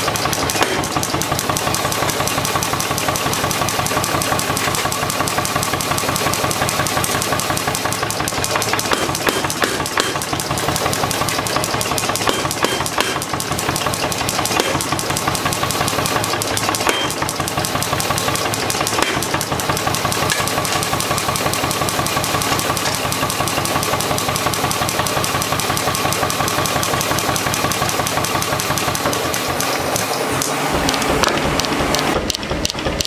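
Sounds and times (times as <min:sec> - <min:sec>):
power hammer knocking: 0:00.0 - 0:33.0.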